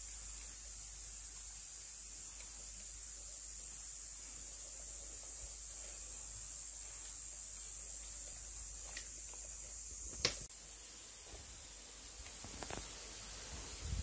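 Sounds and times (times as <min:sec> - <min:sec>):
insect chorus hiss: 0:00.0 - 0:14.0
leaves rustling: 0:00.0 - 0:14.0.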